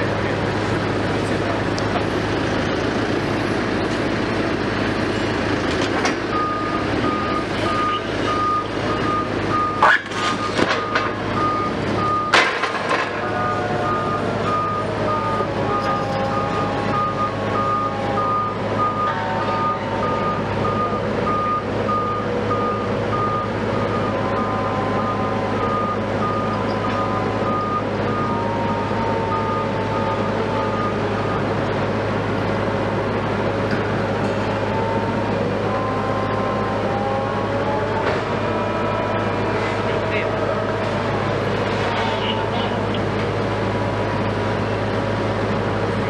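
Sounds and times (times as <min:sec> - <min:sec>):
diesel engines running: 0:00.0 - 0:46.0
vehicle reversing alarm beeping: 0:04.5 - 0:43.1.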